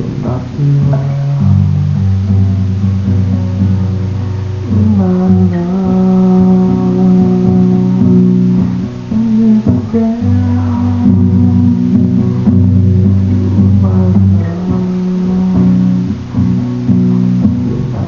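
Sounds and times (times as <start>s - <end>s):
bass line: 0.0s - 18.0s
plucked guitar: 0.0s - 18.0s.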